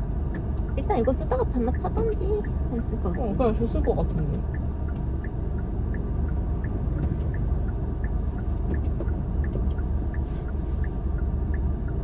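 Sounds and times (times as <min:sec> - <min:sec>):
car road and engine rumble: 0:00.0 - 0:12.0
turn signal ticking: 0:00.2 - 0:12.0.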